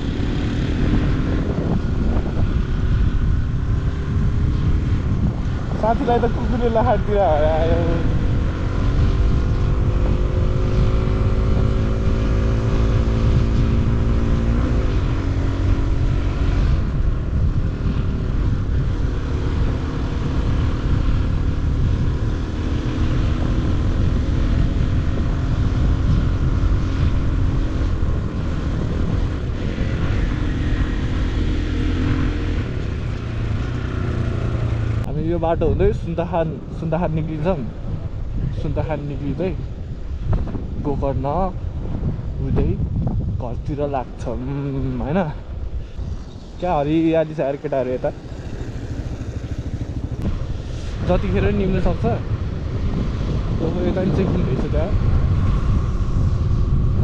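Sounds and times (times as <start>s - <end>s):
motorcycle engine accelerating: 0.0s - 57.0s
wind rumble on microphone: 0.0s - 57.0s.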